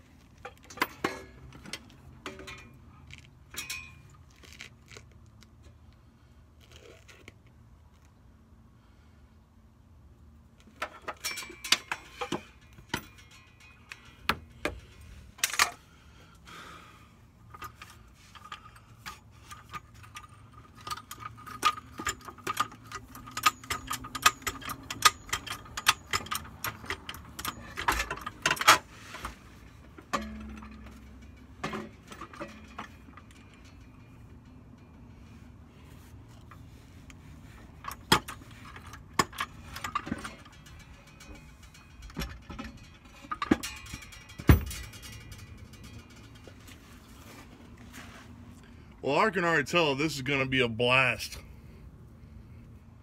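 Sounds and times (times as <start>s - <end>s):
metal clinks and rattles: 0.1s - 5.7s, 10.6s - 16.8s, 17.4s - 48.0s.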